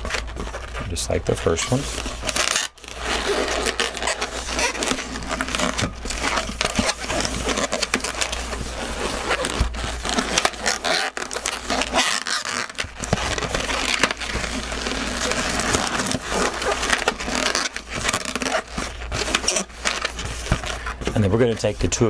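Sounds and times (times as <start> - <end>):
balloons squeaking and rubbing: 0.0 - 22.0.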